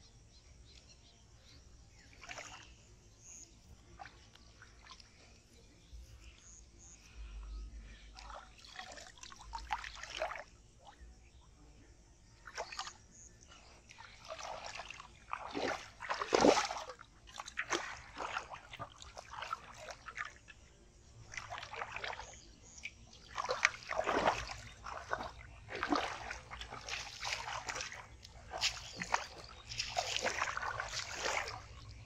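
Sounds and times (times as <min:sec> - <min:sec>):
muddy water splashing: 0:02.0 - 0:11.2, 0:12.3 - 0:32.0.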